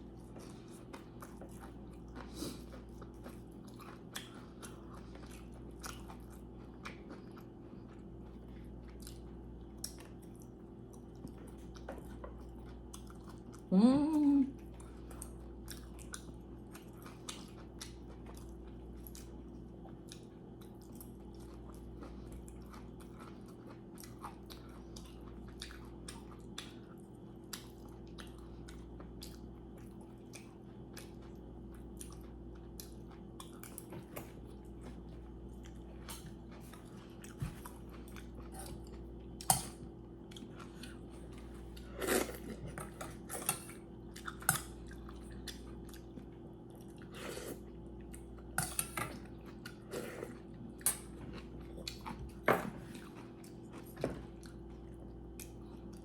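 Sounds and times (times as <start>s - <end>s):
steady low hum: 0.0s - 56.0s
chewing food with wet clicks: 0.1s - 13.7s, 14.6s - 56.0s.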